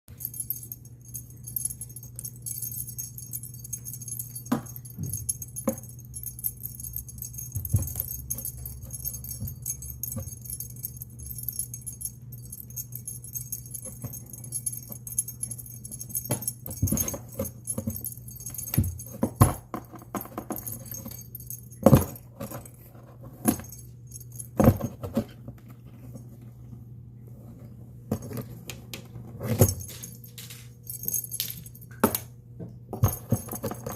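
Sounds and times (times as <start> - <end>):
jingling small bell: 0.1 - 25.3, 29.4 - 32.3, 33.0 - 33.9
steady low hum: 0.1 - 33.9.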